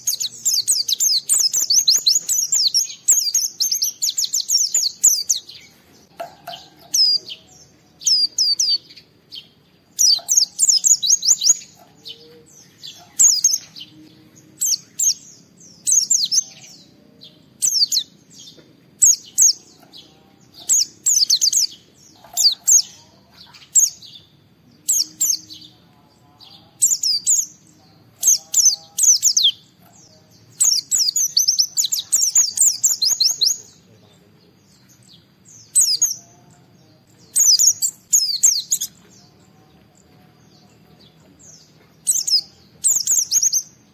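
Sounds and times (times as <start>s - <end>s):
bird twittering song: 0.0s - 43.9s.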